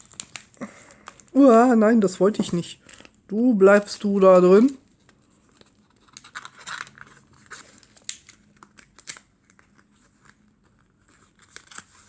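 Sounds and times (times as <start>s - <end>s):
wrapping rustling and crinkling: 0.0s - 12.0s.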